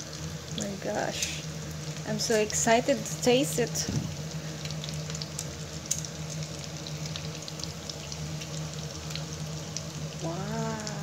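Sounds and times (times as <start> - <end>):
food frying in hot oil: 0.0 - 11.0.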